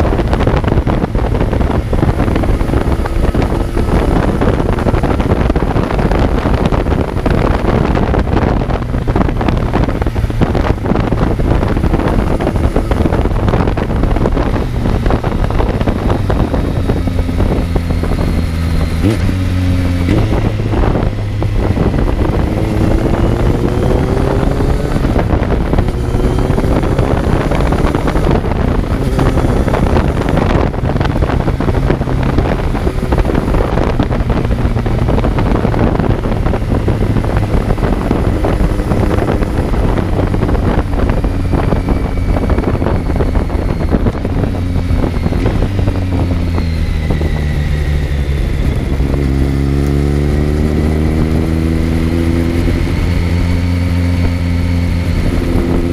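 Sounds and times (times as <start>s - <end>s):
motorcycle engine revving: 0.0s - 55.9s
wind noise on microphone: 0.0s - 55.9s.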